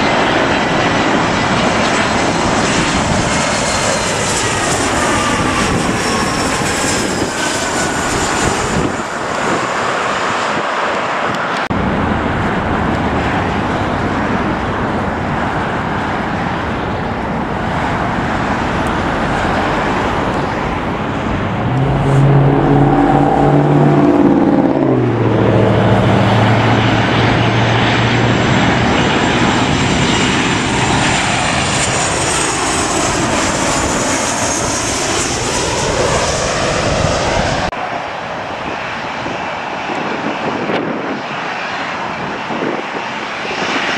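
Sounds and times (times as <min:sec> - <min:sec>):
jet airliners passing overhead: 0:00.0 - 0:43.9.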